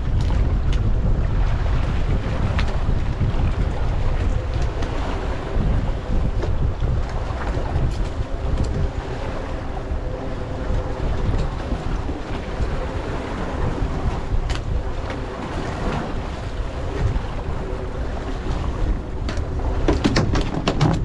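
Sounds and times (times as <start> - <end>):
faint boat hum: 0.0 - 21.0
wash of waves: 0.0 - 21.0
wind buffeting microphone: 0.0 - 21.0.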